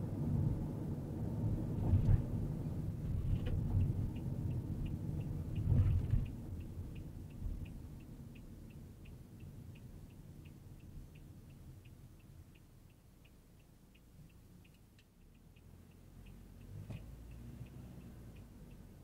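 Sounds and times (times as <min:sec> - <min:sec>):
car road and engine rumble: 0:00.0 - 0:19.0
turn signal ticking: 0:00.1 - 0:19.0.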